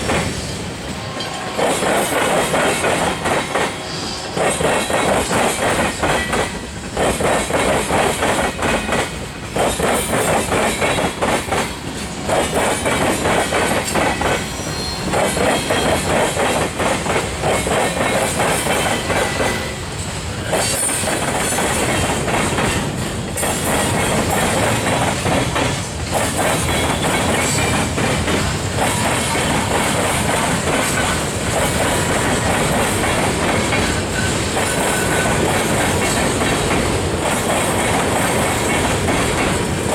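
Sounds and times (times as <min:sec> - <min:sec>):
train wheels clattering over crossing: 0:00.0 - 0:39.9.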